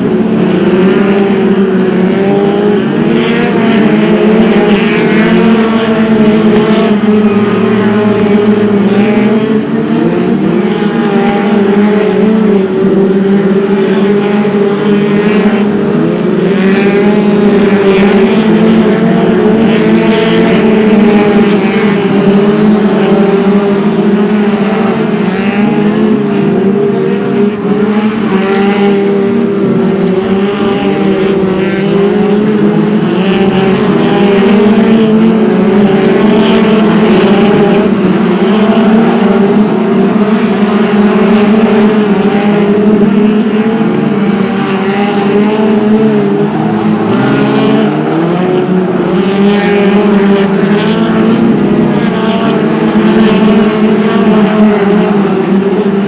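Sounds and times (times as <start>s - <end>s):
stock car engines racing: 0.0s - 56.0s.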